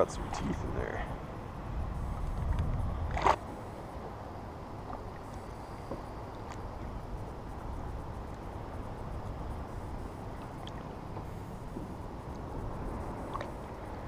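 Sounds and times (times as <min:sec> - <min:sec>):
water rushing around kayak: 0:00.0 - 0:14.0.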